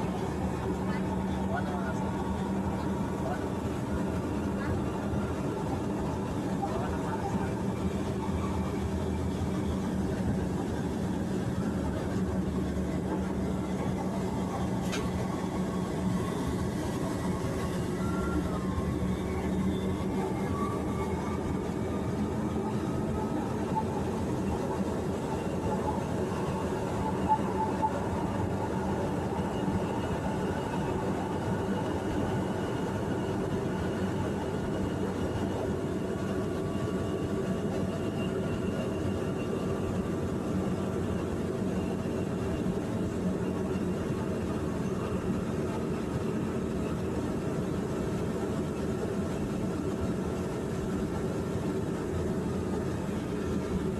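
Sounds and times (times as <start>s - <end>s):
faint whine: 0.0s - 53.9s
train rumbling: 0.0s - 53.9s.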